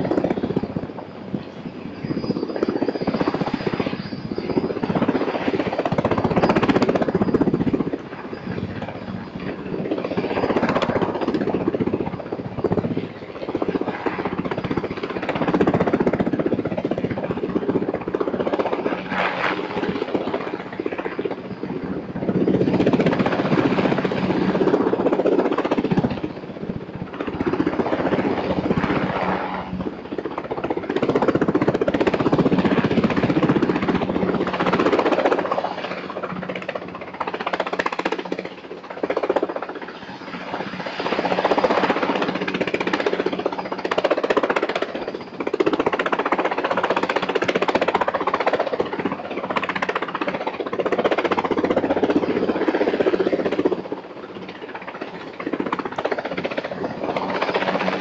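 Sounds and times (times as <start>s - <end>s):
helicopter rotors thudding: 0.0s - 58.0s.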